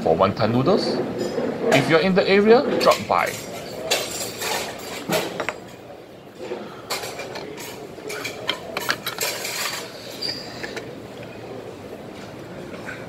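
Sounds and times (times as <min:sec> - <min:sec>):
steady background hum: 0:00.0 - 0:13.0
crockery and cutlery clinking: 0:00.9 - 0:11.6.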